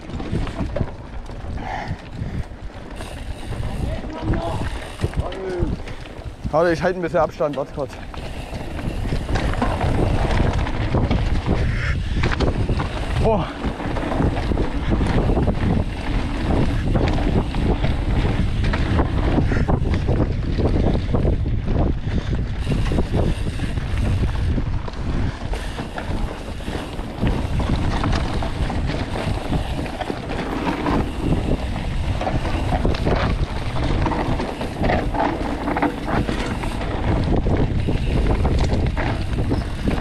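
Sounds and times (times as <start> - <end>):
bike knocks and rattles: 0.0 - 40.0
bike rumble on rough ground: 0.0 - 40.0
wind buffeting microphone: 0.0 - 40.0.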